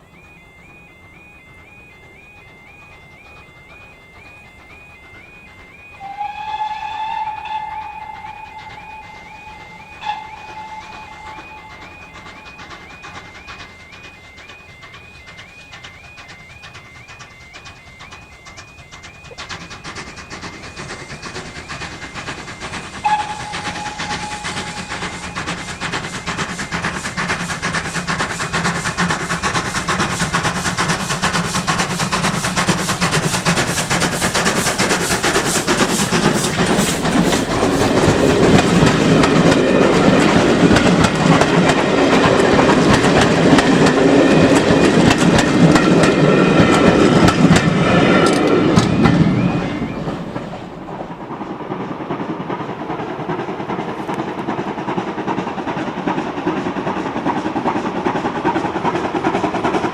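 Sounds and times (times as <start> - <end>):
steam train passing: 0.0 - 59.9
wheels clacking over rail joints: 1.5 - 59.9.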